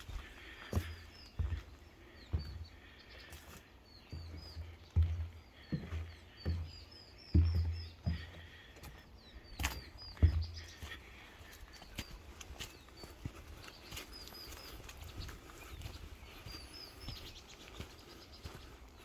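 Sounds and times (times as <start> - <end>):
bird chirping: 0.0 - 19.0
footsteps on forest path: 0.0 - 19.0.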